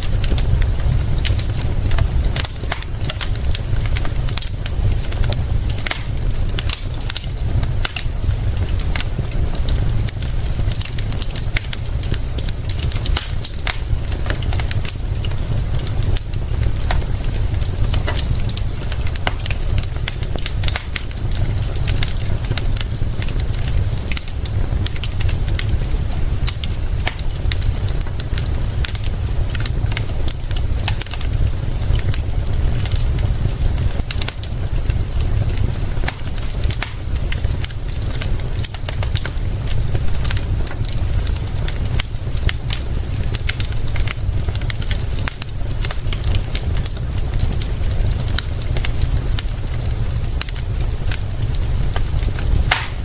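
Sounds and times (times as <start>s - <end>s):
rain hissing: 0.0s - 53.0s
wood fire crackling: 0.0s - 53.0s.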